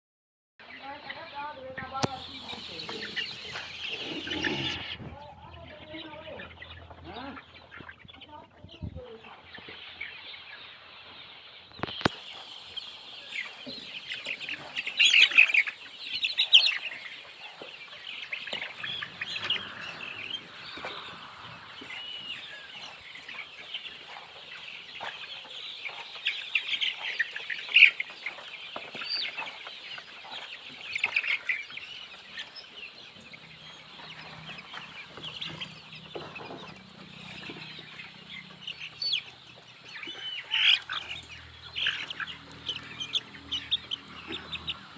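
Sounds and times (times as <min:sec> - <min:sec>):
chickens peeping and clucking: 0:00.6 - 0:44.9.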